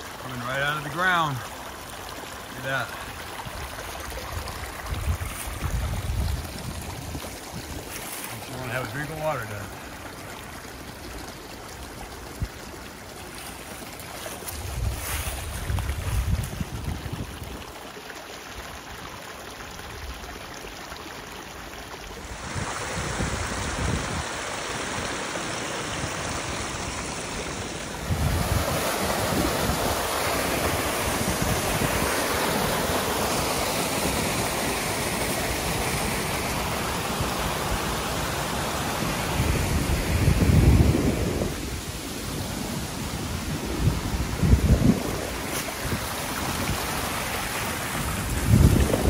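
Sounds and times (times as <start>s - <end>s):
water running over rocks: 0.0s - 49.0s.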